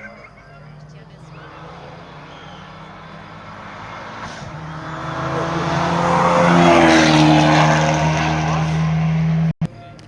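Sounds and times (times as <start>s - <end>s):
race car engine accelerating: 0.5s - 9.5s.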